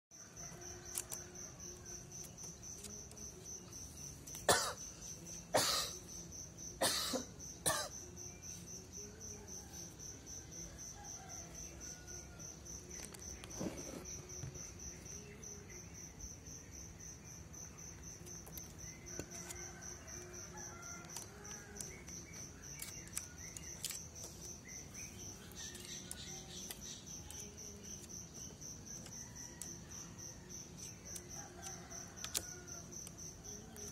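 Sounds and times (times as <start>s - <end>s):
crickets chirping: 0.2s - 33.9s.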